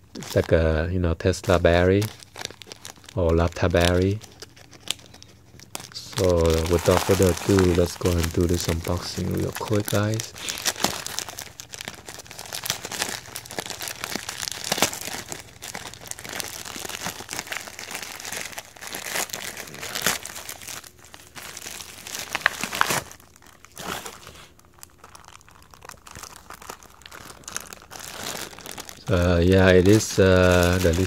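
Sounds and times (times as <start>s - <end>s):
plastic mailer crinkling and tearing: 0.0s - 31.0s.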